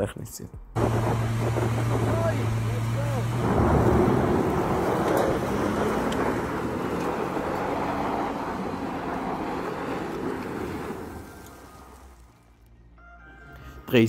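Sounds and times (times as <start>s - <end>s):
truck engine running hard: 0.8s - 12.4s
tyres rushing on loose dirt: 0.8s - 12.9s.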